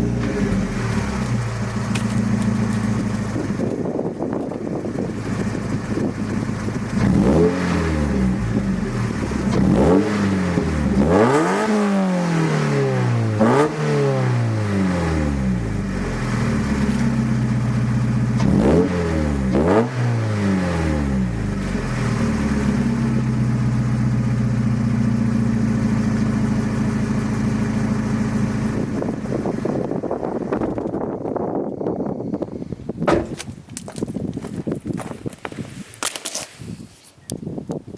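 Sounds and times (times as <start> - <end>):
car engine idling and revving: 0.0 - 33.5.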